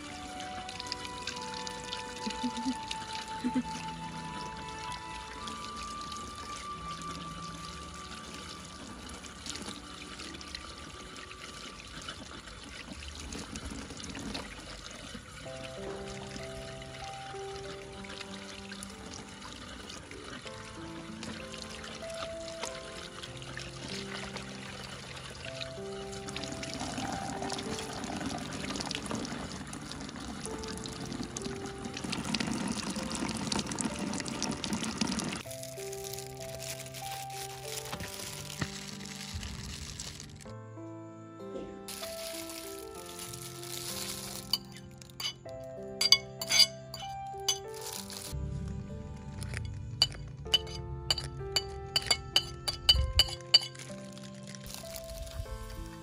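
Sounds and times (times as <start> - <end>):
water pouring and trickling: 0.0 - 40.5, 41.9 - 56.0
faint background music: 0.0 - 56.0.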